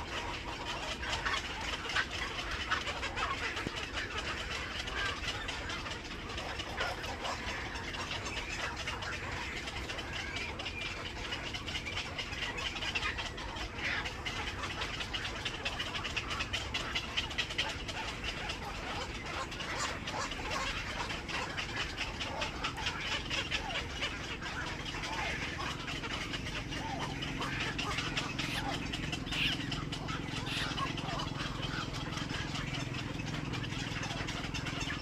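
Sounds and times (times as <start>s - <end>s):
birds chattering and calling: 0.0s - 35.0s
steady low rumble: 0.0s - 35.0s.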